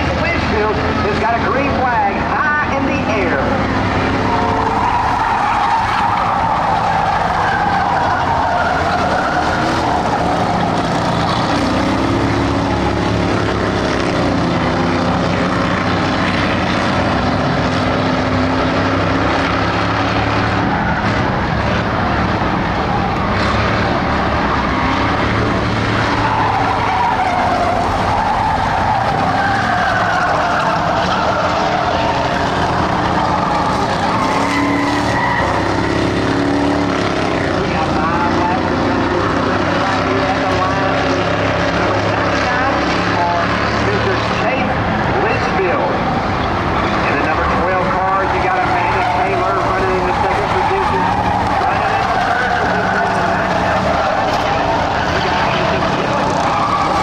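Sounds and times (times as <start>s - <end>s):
race car engines roaring past: 0.0s - 57.0s.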